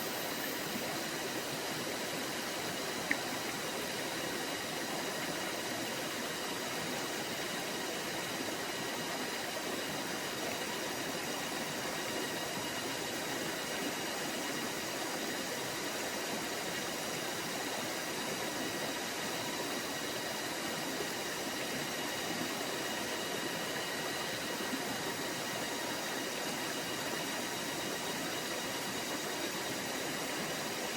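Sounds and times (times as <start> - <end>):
stream flowing: 0.0 - 30.9.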